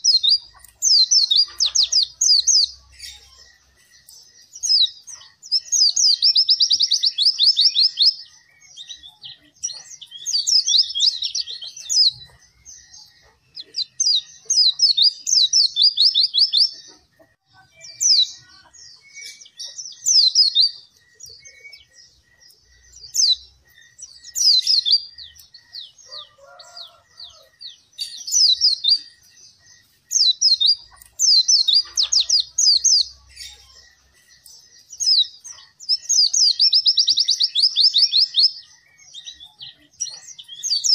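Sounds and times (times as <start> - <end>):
white-eye birdsong: 0.0 - 40.9.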